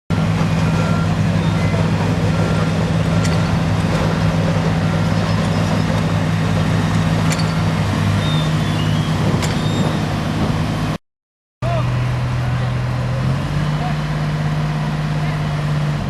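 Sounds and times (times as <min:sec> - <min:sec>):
heavy diesel engine running: 0:00.1 - 0:11.0, 0:11.6 - 0:16.0.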